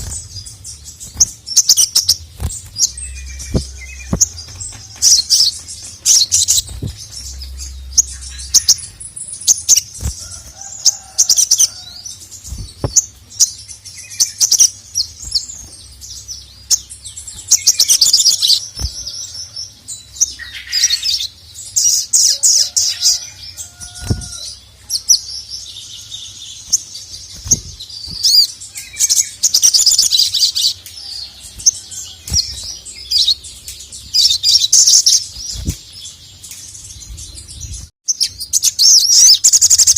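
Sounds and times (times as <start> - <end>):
bird singing trilled chirps: 0.0 - 39.9.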